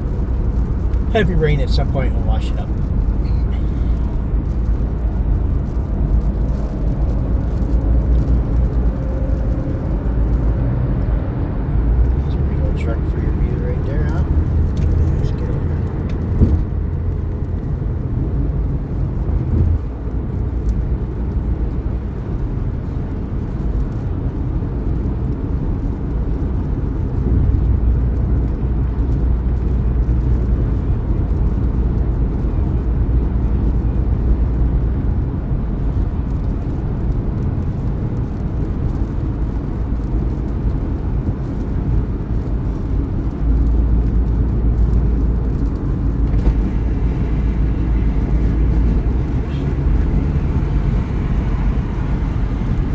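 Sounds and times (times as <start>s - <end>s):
road and engine noise in car: 0.0s - 52.9s.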